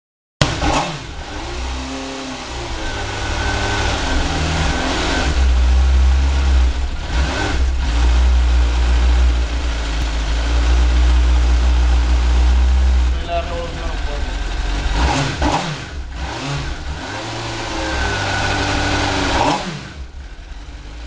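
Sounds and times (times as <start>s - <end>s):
motorcycle engine idling and revving: 0.4s - 21.0s.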